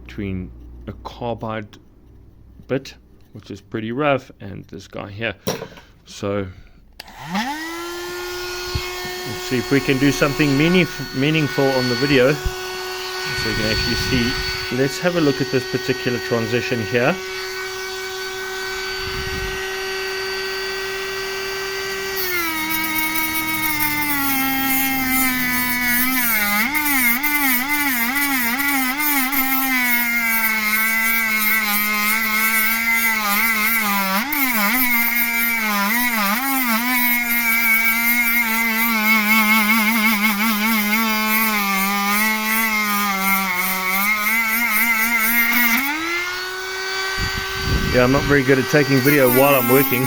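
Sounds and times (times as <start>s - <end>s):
disc grinding metal: 7.0s - 50.0s
rotary tool whining: 7.0s - 50.0s.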